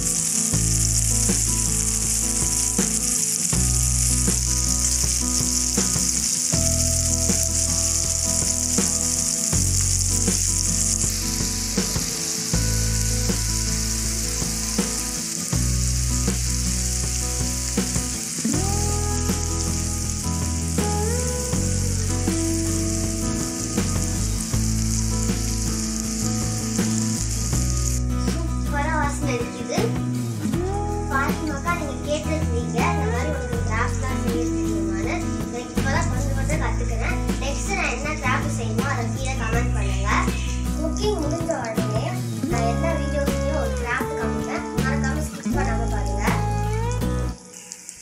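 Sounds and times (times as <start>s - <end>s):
fish sizzling in oil: 0.0s - 48.0s.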